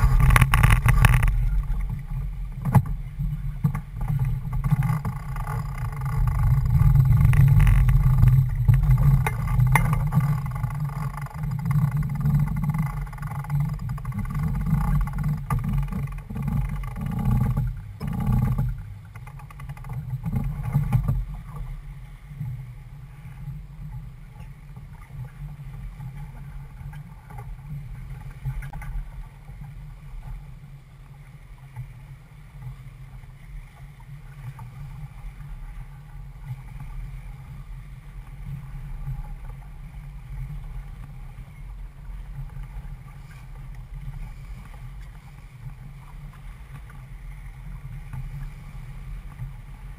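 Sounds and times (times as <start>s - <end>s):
water rushing past hull: 0.0s - 49.9s
wind on microphone: 0.0s - 49.9s.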